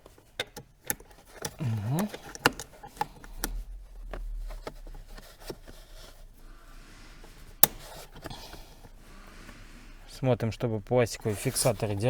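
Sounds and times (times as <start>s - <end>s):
metal and plastic parts scraping: 0.0s - 10.0s, 11.1s - 12.0s.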